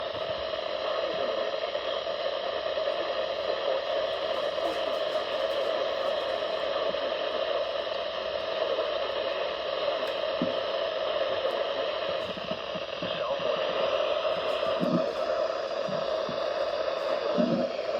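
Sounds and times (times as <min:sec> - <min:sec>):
radio static hiss: 0:00.0 - 0:17.9.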